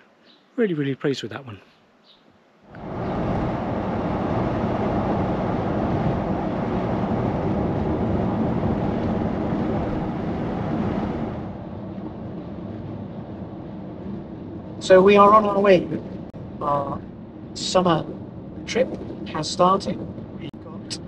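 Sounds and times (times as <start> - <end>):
road and engine noise inside van: 2.7 - 21.0.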